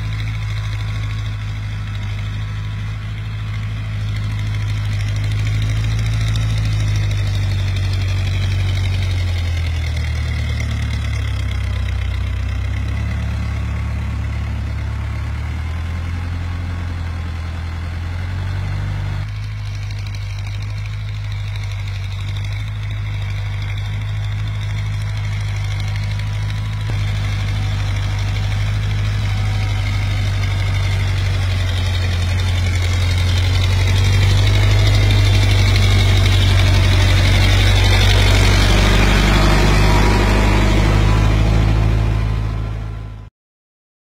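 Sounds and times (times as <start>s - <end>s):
tractor diesel engine under load: 0.0s - 43.3s.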